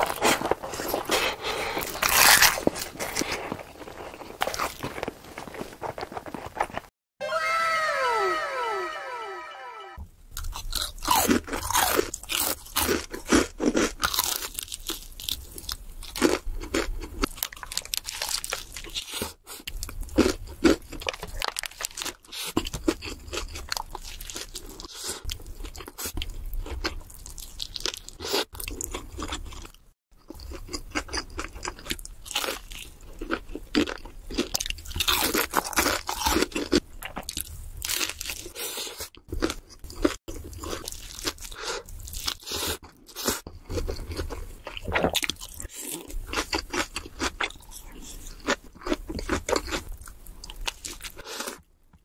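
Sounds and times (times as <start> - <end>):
crunching and chewing fried chicken: 0.0 - 6.9, 10.4 - 52.0.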